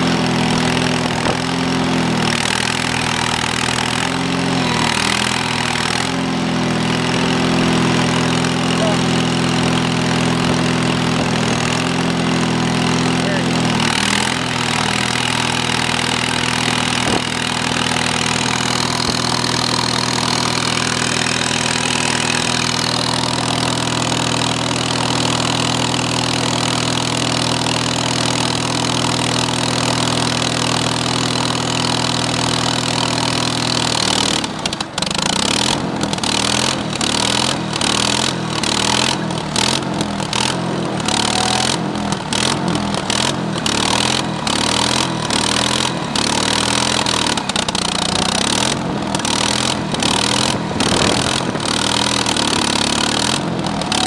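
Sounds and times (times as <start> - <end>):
gas engine running: 0.0 - 54.0.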